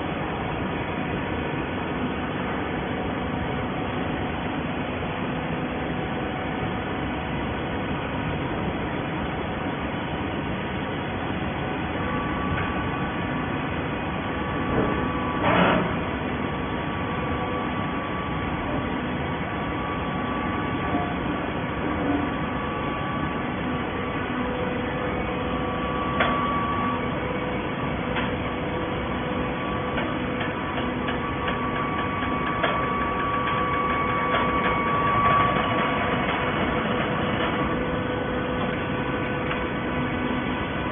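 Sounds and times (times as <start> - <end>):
hydraulic baler humming: 0.0 - 40.9.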